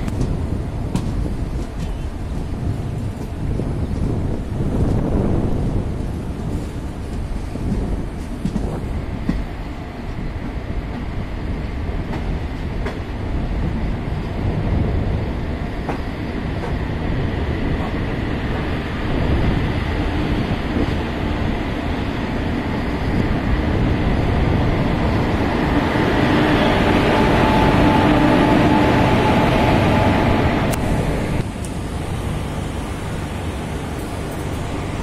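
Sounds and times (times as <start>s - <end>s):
standing locomotive humming: 0.0s - 35.0s
train wheels rumbling: 0.0s - 35.0s.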